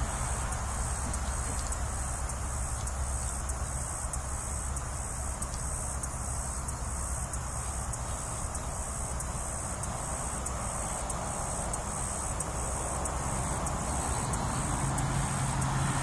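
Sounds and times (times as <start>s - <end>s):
insects buzzing: 0.0s - 16.0s
faint irregular ticks: 0.2s - 16.0s.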